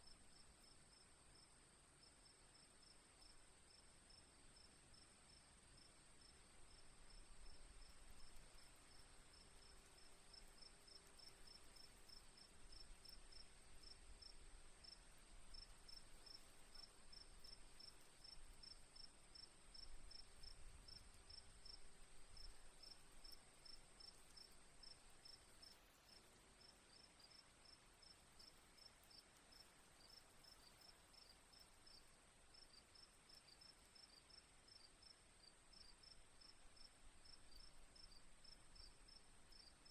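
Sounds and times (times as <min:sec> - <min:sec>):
faint crickets chirping: 0:00.0 - 0:39.9.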